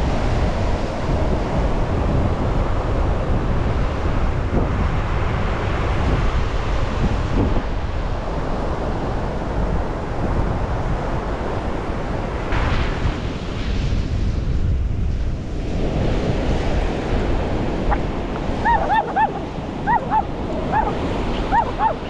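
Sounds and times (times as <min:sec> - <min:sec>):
surf breaking on a beach: 0:00.0 - 0:22.0
wind rumbling on microphone: 0:00.0 - 0:22.0.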